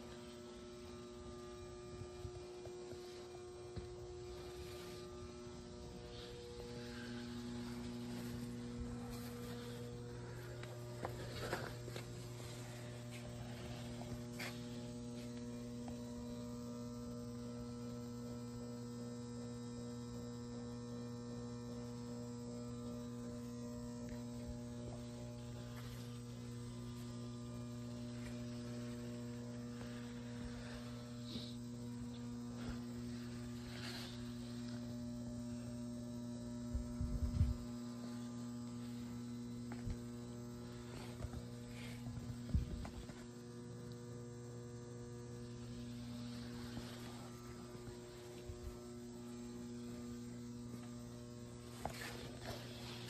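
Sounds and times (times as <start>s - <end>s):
electrical mains hum: 0.0s - 53.0s.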